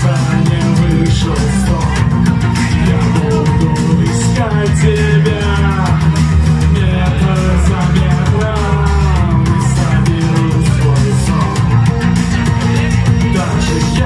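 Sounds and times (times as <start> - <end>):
loud synth music with heavy bass: 0.0 - 14.0
person singing: 0.0 - 14.0.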